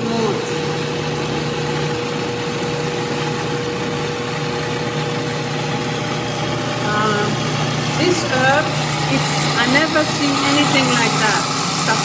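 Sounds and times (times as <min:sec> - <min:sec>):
food processor motor hum: 0:00.0 - 0:12.0.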